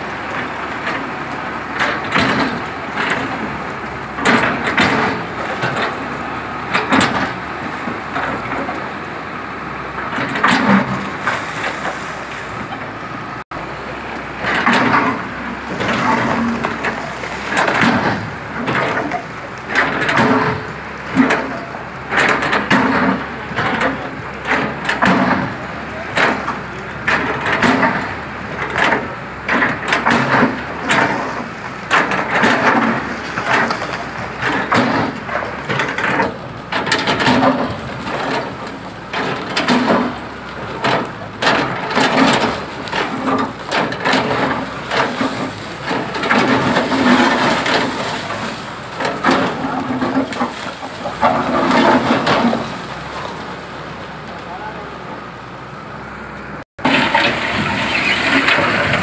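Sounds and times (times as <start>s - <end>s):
masonry cracking and crashing: 0.0s - 54.4s, 56.8s - 59.0s
excavator running: 0.0s - 59.0s.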